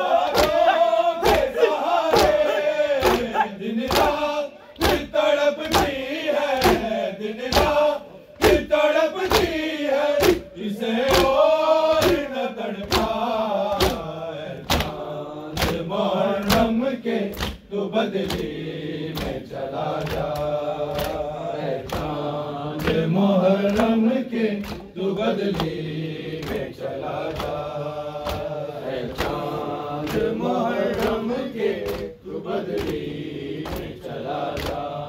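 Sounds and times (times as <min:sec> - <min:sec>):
men chanting a lament: 0:00.0 - 0:35.0
hands slapping chests: 0:00.2 - 0:08.6, 0:09.2 - 0:11.4, 0:12.8 - 0:16.7, 0:17.3 - 0:18.6, 0:20.0 - 0:22.2, 0:22.8 - 0:24.0, 0:24.6 - 0:25.8, 0:26.4 - 0:31.2, 0:31.8 - 0:34.9.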